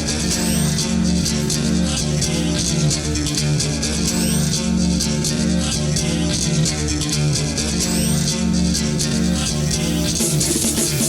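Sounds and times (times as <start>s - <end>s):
minimal techno music: 0.0s - 11.0s.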